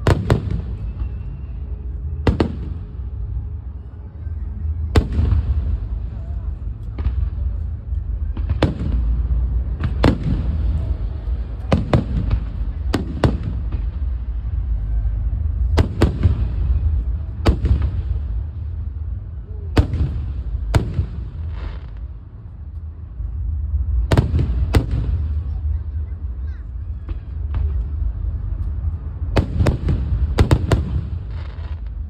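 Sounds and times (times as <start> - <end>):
fireworks bangs: 0.0 - 3.4, 4.8 - 22.2, 23.4 - 32.0
steady low rumble: 0.0 - 32.0.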